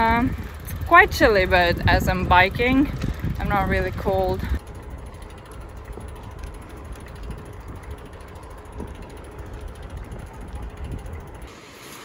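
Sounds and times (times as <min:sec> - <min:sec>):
bicycle ticking and rattling: 0:00.0 - 0:11.8
bicycle tyres rumbling on asphalt: 0:00.0 - 0:12.0.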